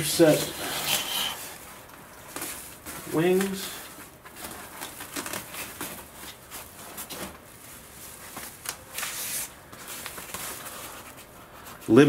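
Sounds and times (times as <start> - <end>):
foil bag rustling and scraping: 0.0 - 12.0.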